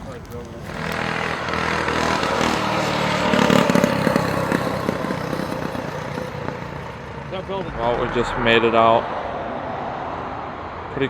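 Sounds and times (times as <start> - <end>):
motor vehicle passing by: 0.7 - 11.0.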